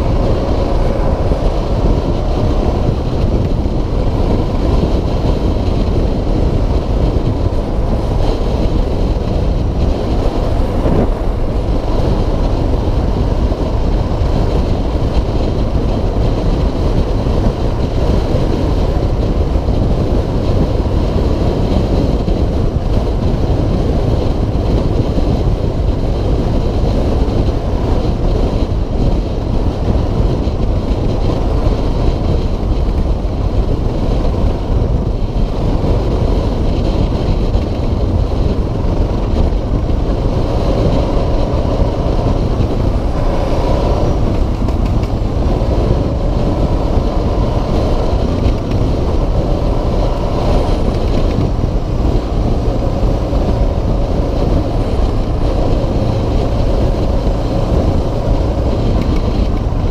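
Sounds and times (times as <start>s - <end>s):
motorcycle engine drone: 0.0s - 59.9s.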